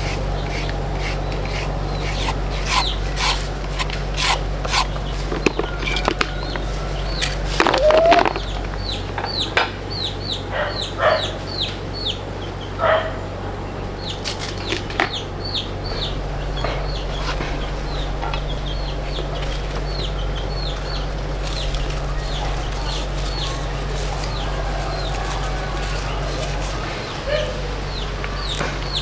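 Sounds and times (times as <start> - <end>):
chicks peeping: 0.0 - 13.2, 14.0 - 29.0
chickens clucking: 0.0 - 29.0.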